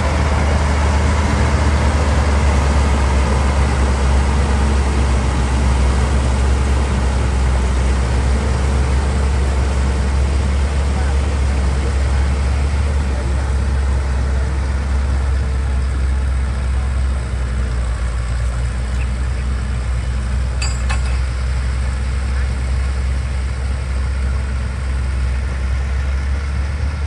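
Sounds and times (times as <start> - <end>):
heavy diesel engines rumbling: 0.0 - 27.0.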